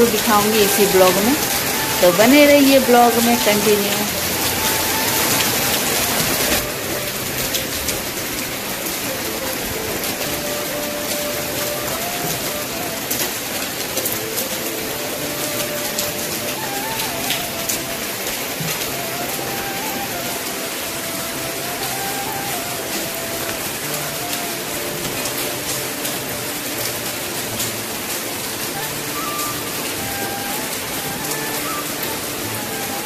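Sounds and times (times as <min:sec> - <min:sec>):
faint melody of held notes: 0:00.0 - 0:33.0
heavy rain pouring: 0:00.0 - 0:33.0.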